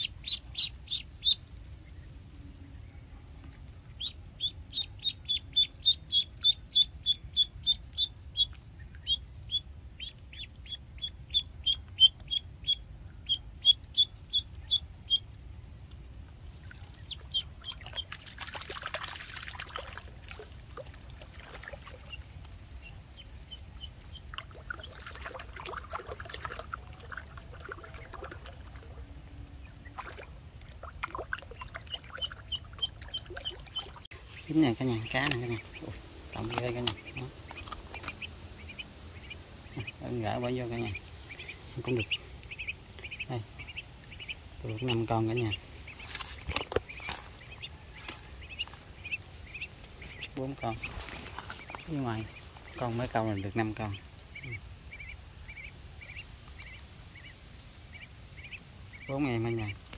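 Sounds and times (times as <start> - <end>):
duckling peeping: 0.0 - 18.5, 19.7 - 59.9.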